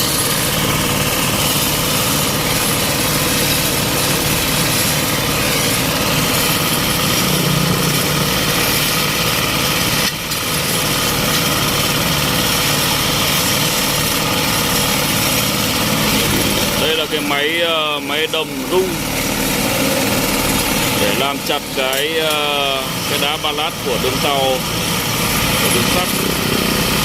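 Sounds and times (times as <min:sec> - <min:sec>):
vibrating ballast tampers running: 0:00.0 - 0:27.0.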